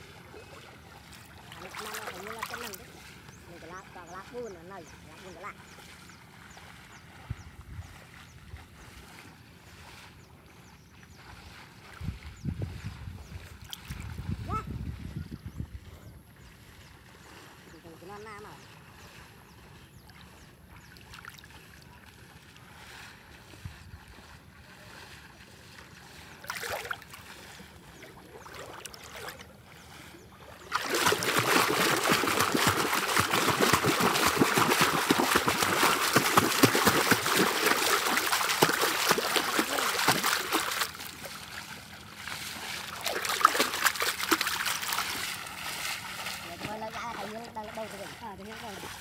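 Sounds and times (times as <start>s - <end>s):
water splashing: 0.0s - 10.2s, 13.4s - 15.0s, 16.5s - 49.0s
faint water noise: 0.0s - 49.0s.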